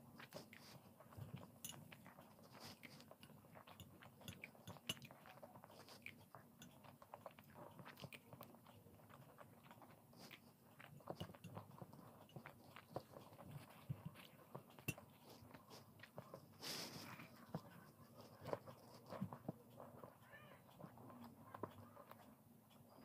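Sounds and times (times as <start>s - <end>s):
chewing soft food: 0.0s - 23.0s.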